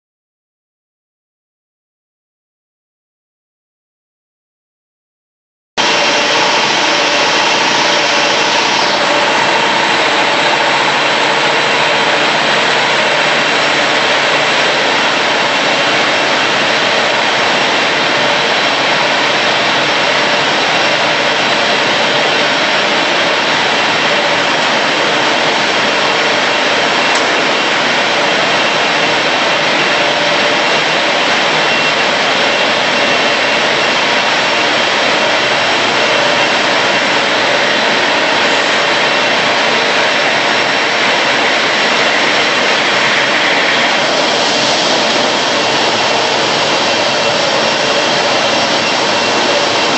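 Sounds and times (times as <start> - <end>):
paper cutting machine whirring: 5.8 - 49.9.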